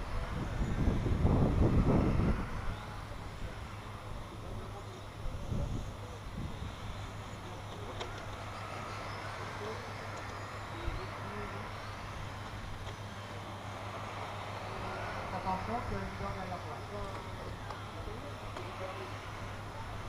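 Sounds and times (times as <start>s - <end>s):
electric motors whining: 0.0s - 20.0s
steady low hum: 0.0s - 20.0s.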